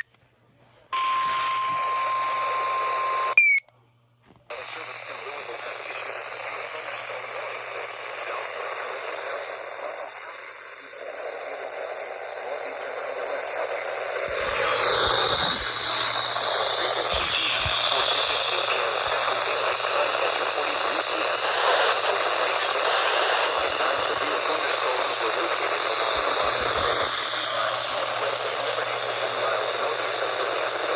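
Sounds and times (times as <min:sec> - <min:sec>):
crackles: 0:04.2 - 0:30.9
radio static hiss: 0:04.5 - 0:30.9.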